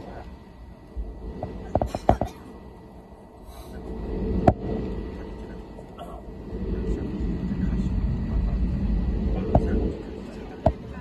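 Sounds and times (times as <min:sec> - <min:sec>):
jet airliner cabin rumble: 0:00.0 - 0:11.0.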